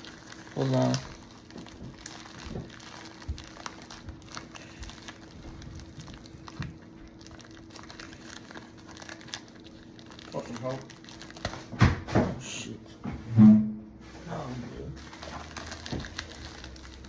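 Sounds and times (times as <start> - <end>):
plastic mailer crinkling: 0.0 - 12.0, 14.3 - 17.0.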